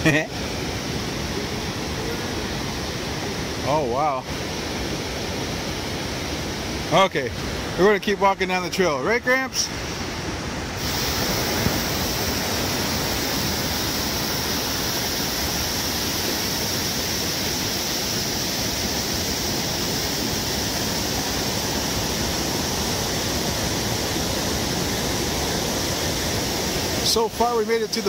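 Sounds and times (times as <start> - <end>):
waterfall and rapids rushing: 0.0 - 28.0.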